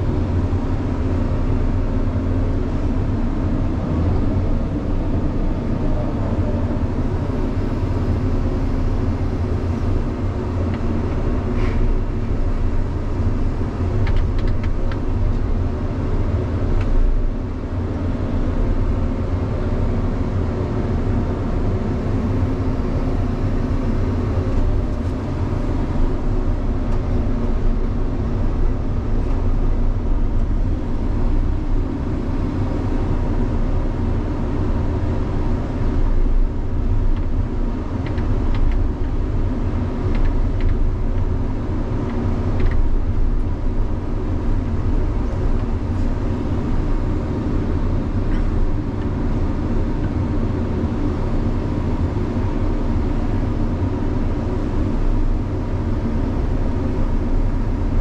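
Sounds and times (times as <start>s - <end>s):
excavator engine droning: 0.0s - 58.0s.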